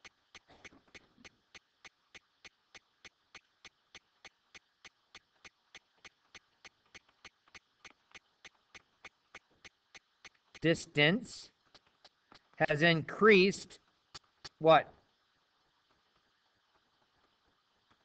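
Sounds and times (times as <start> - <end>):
faint steady ticking: 0.0 - 18.0.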